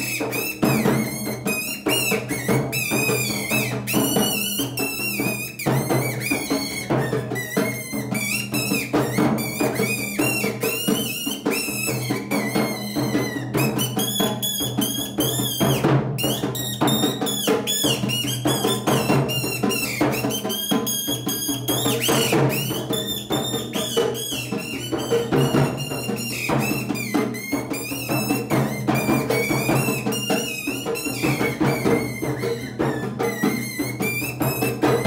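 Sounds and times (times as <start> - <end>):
steady drum beat: 0.0 - 35.0.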